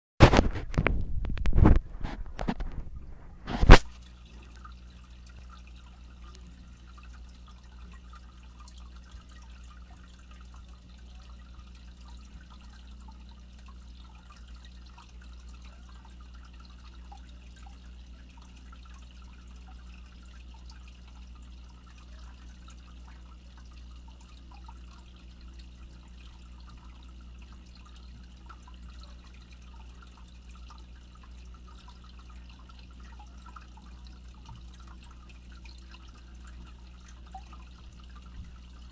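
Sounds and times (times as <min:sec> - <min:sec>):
aquarium air bubbles popping: 0:00.2 - 0:38.9
low steady hum: 0:00.2 - 0:38.9.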